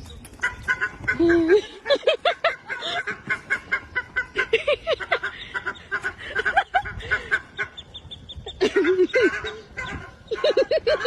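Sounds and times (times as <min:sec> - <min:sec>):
poultry calling: 0:00.4 - 0:11.0.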